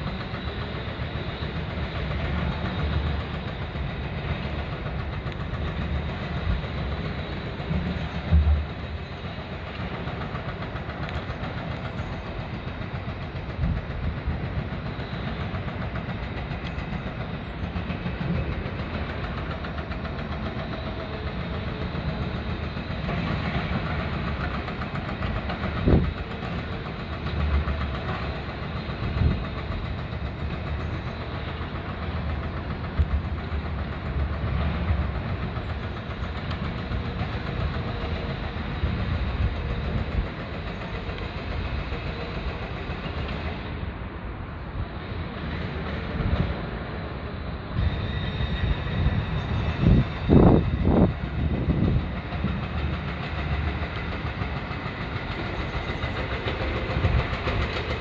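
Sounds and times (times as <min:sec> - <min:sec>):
excavator engine rumble: 0:00.0 - 0:58.0.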